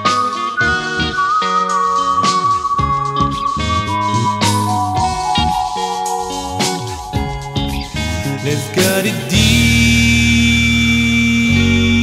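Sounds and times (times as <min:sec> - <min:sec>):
bass guitar: 0:00.0 - 0:12.0
guitar: 0:00.0 - 0:12.0.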